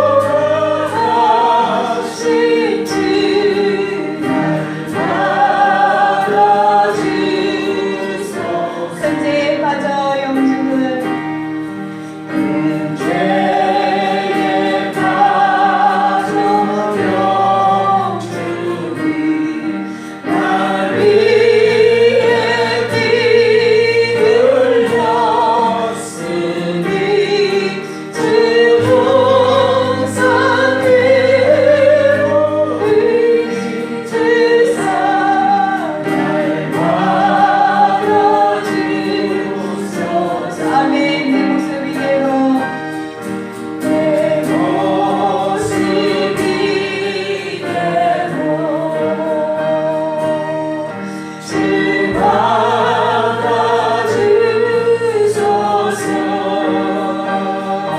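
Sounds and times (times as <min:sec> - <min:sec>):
congregation singing a hymn: 0:00.0 - 0:57.9
instrumental accompaniment: 0:00.0 - 0:57.9.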